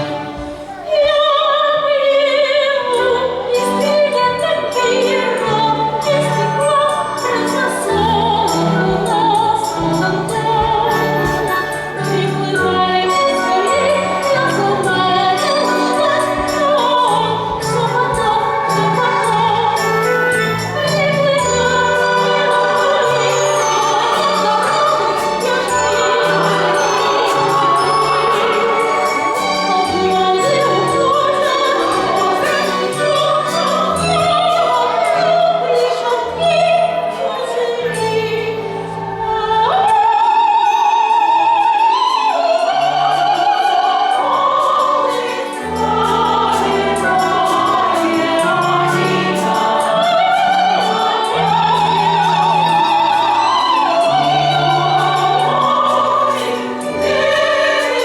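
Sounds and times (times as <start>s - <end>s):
woman singing: 0.0s - 58.0s
instrumental accompaniment: 2.8s - 58.0s.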